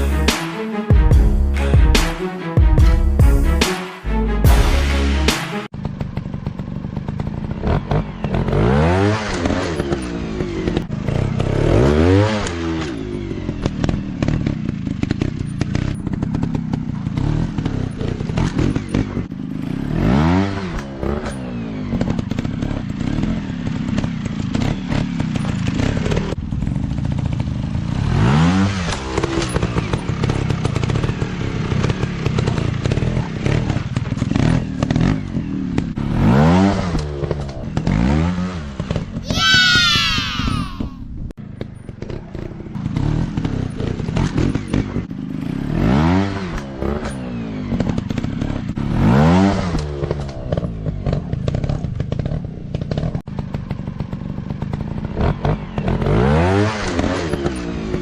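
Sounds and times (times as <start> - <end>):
off-road motorcycle engine revving: 4.5 - 39.3, 41.4 - 58.0.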